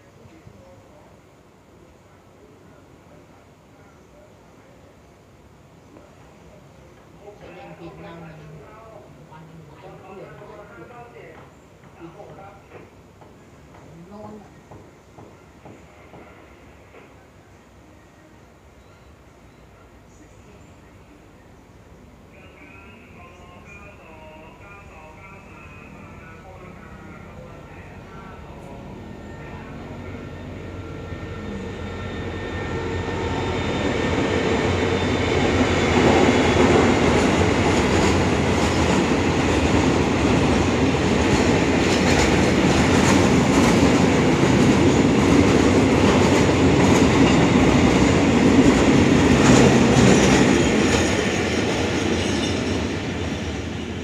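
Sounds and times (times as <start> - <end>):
freight train rumbling: 4.6 - 54.0.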